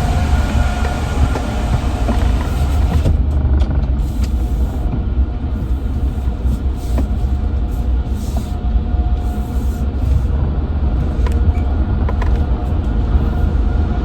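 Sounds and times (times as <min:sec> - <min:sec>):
car engine rumble inside cabin: 0:00.0 - 0:14.0.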